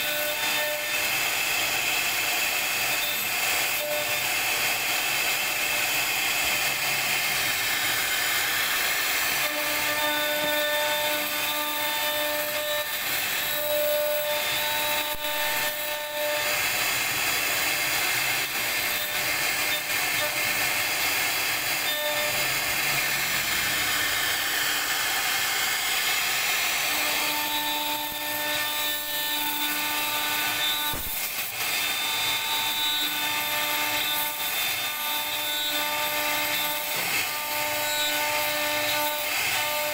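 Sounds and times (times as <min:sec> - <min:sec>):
router bit cutting wood hiss: 0:00.0 - 0:39.9.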